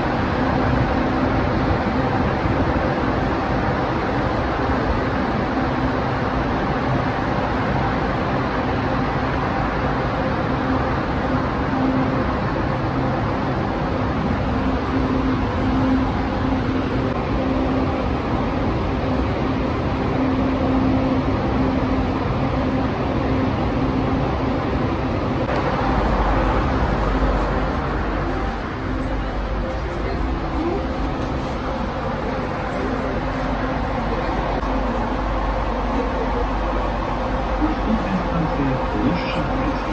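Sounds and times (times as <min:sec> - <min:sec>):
metro platform hum and hiss: 0:00.0 - 0:39.9
metro train rumbling: 0:00.0 - 0:39.9.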